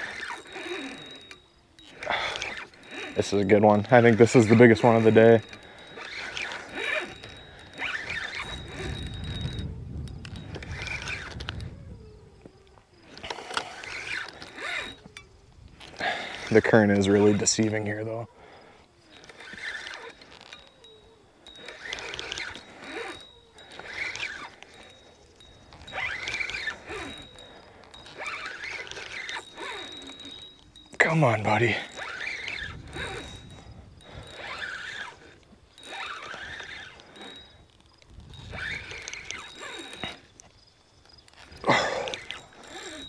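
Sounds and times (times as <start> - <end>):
fishing reel squeaking: 0.0 - 43.0.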